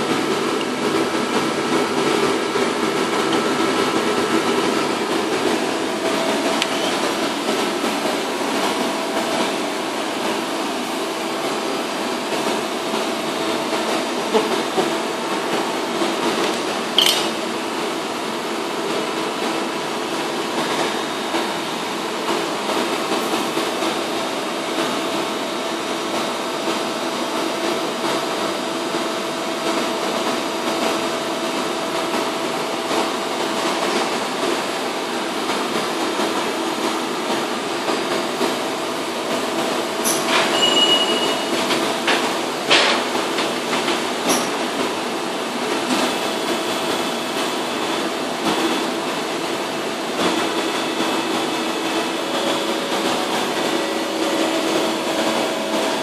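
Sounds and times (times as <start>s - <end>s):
welding machine humming: 0.0s - 56.0s.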